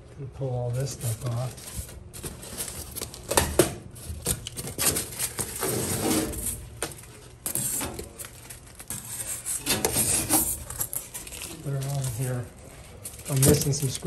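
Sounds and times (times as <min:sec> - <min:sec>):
packing plastic rustling and scraping: 0:00.7 - 0:14.0.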